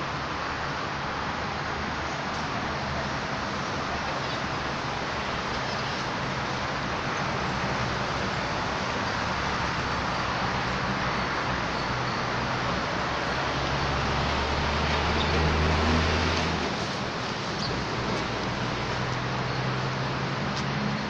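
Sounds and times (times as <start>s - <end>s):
road traffic noise: 0.0s - 21.0s
vehicle engine hum: 0.1s - 21.0s.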